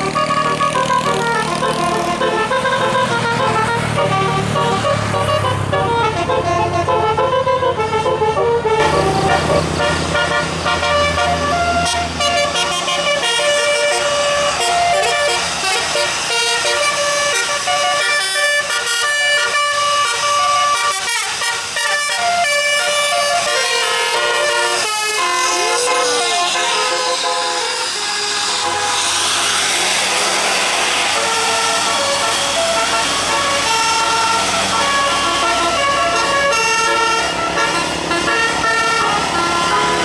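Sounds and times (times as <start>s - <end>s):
bus engine rumble: 0.0s - 40.0s
musical air horn tune: 0.0s - 40.0s.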